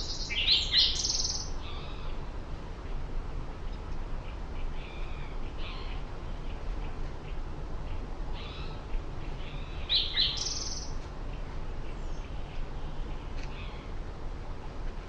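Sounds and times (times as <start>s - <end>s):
small birds chirping: 0.0s - 14.0s
steady low rumble: 0.0s - 15.0s.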